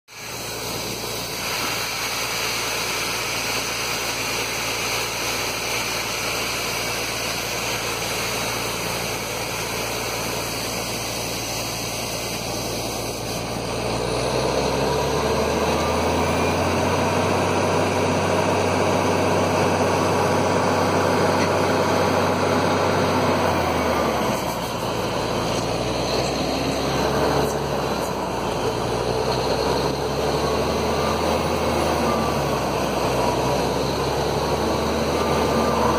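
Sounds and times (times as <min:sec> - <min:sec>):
drilling rig diesel engine: 0:00.1 - 0:35.9.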